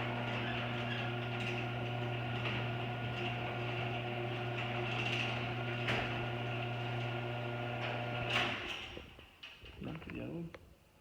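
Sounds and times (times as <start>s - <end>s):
garage door opener motor hum: 0.0s - 9.0s.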